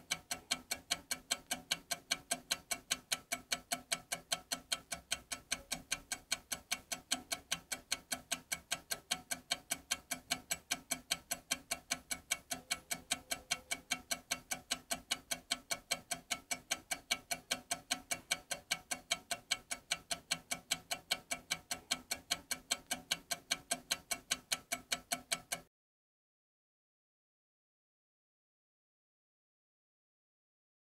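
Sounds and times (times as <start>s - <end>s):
fast clock-like ticking: 0.0s - 25.7s.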